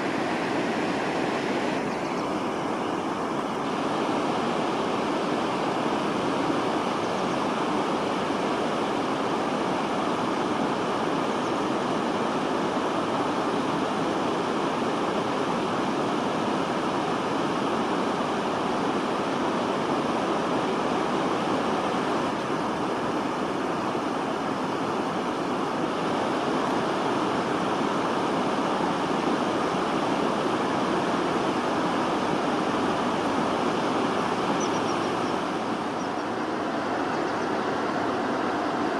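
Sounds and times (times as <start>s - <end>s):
river water rushing at a weir: 0.0s - 38.9s.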